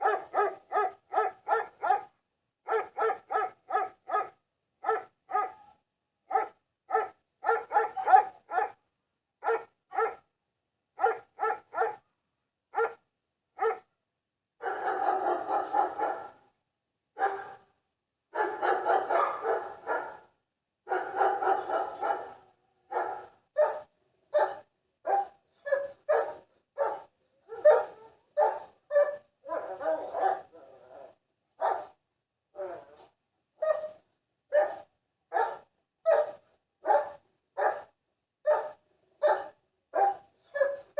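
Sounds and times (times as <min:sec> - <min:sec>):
dog barking: 0:00.0 - 0:08.8, 0:09.4 - 0:10.3, 0:11.0 - 0:12.1, 0:12.7 - 0:13.0, 0:13.6 - 0:13.9, 0:14.6 - 0:16.4, 0:17.2 - 0:17.7, 0:18.3 - 0:20.3, 0:20.9 - 0:32.0, 0:32.6 - 0:40.9.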